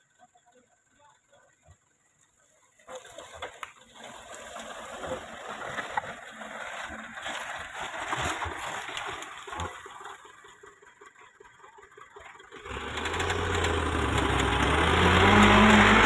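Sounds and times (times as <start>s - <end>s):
truck tyres churning through mud: 2.2s - 16.0s.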